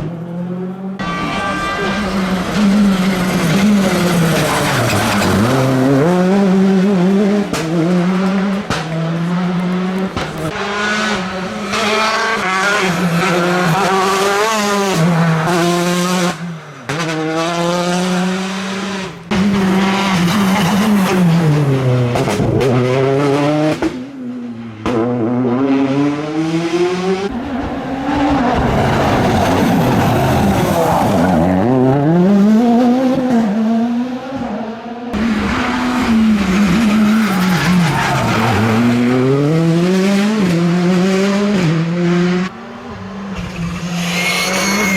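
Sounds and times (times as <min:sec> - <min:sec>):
rally car engines revving hard: 0:00.0 - 0:44.9.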